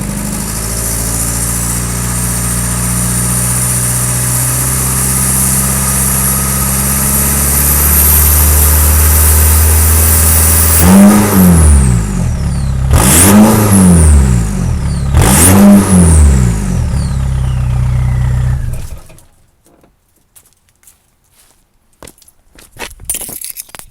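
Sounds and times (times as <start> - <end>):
diesel car engine idling and revving: 0.0 - 19.4.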